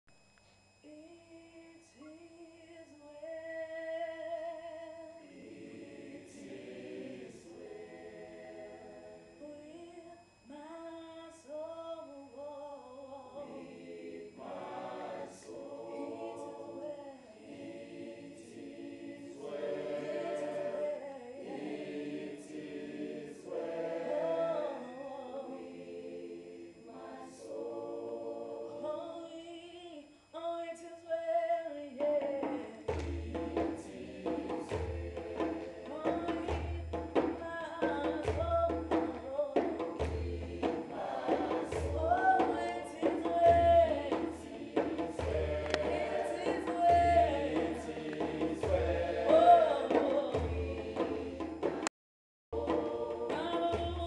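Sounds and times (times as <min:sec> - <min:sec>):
mixed choir singing a cappella: 0:03.2 - 0:09.8, 0:12.2 - 0:30.1, 0:30.7 - 0:51.9, 0:52.6 - 0:54.0.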